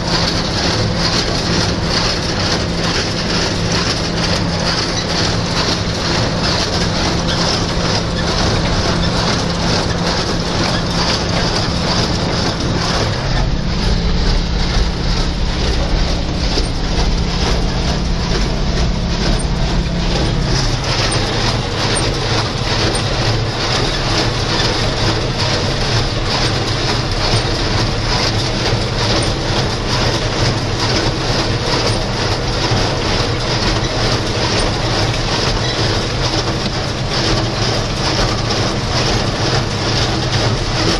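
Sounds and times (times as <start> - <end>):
baler machinery clattering: 0.0 - 40.9
diesel tractor engine under load: 0.0 - 40.9.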